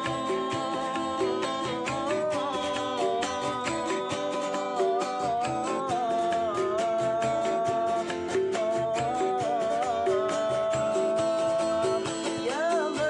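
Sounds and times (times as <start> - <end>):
plucked-string music with beat: 0.0 - 13.0.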